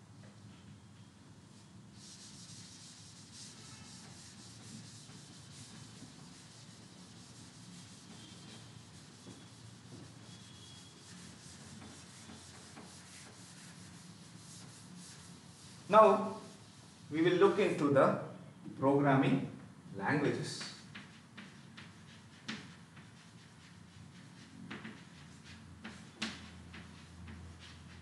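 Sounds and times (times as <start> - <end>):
duster scrubbing chalkboard: 1.9 - 17.5, 20.6 - 28.0.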